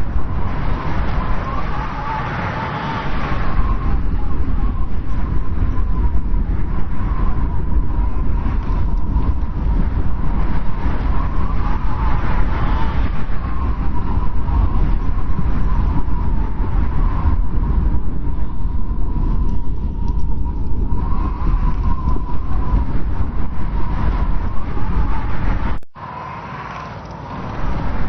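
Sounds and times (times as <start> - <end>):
deep rumble of wind: 0.0 - 28.0
thin wavering wind whistle: 0.0 - 28.0.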